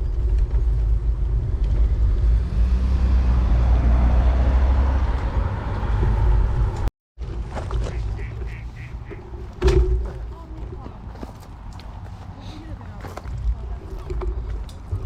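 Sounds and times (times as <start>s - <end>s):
passing car tyres and engine: 0.0s - 15.0s
road traffic noise: 0.0s - 15.0s
wind rumbling on microphone: 0.0s - 15.0s.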